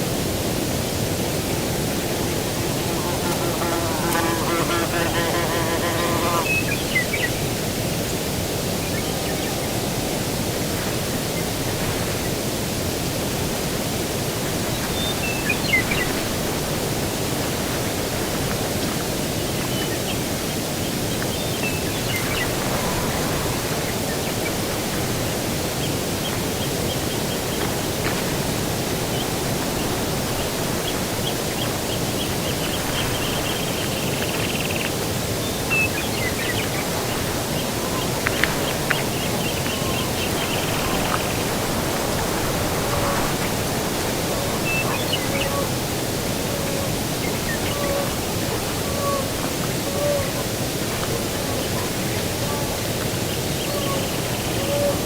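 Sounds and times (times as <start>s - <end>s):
breeze rushing: 0.0s - 55.0s.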